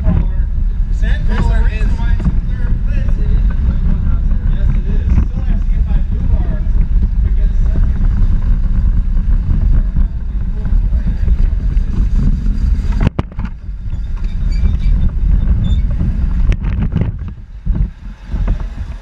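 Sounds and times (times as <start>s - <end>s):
vehicle vibration and wind rumble: 0.0s - 19.0s.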